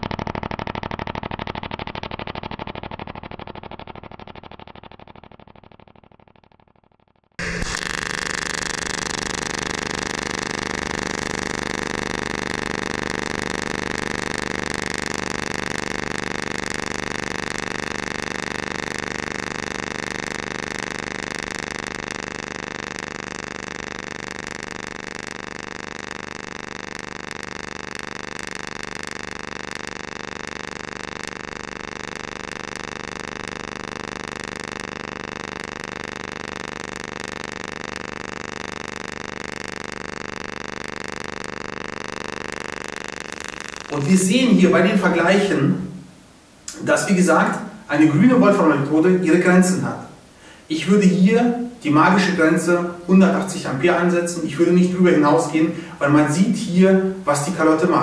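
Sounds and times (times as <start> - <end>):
welding arc buzzing: 0.0 - 6.4, 7.4 - 58.0.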